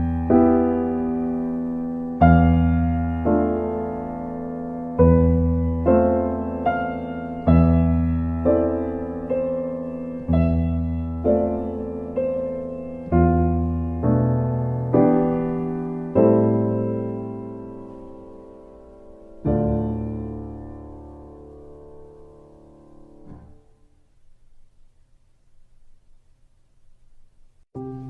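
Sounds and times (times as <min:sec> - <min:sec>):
slow soft piano music: 0:00.0 - 0:24.7, 0:27.7 - 0:28.0.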